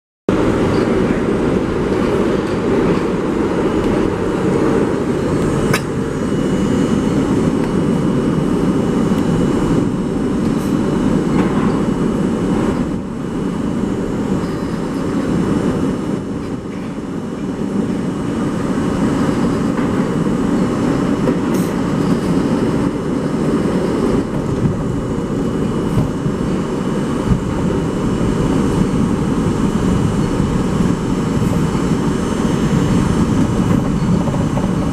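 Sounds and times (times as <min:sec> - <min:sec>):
subway car rumbling in tunnel: 0:00.3 - 0:34.9.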